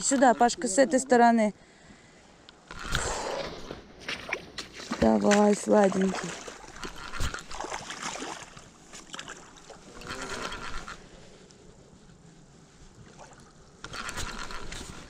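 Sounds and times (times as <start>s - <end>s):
water splashing and sloshing: 2.6s - 15.0s.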